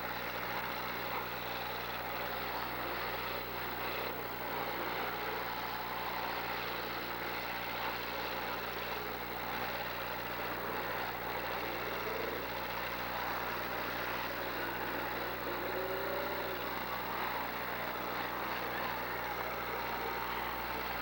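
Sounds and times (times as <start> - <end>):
car engines running: 2.0 - 21.0.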